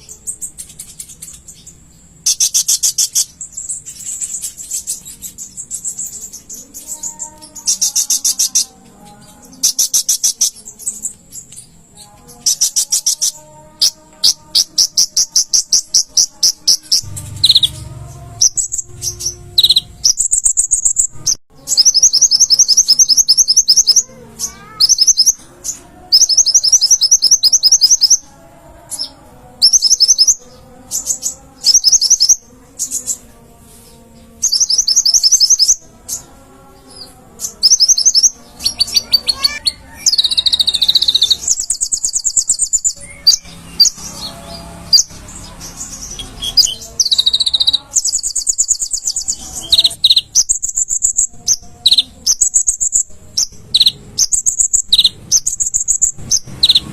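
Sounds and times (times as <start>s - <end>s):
bird singing high-pitched trills: 0.0s - 33.4s, 34.1s - 56.9s.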